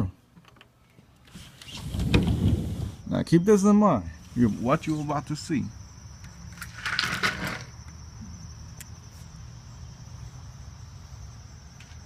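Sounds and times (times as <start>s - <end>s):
insects chirring: 1.0s - 12.0s.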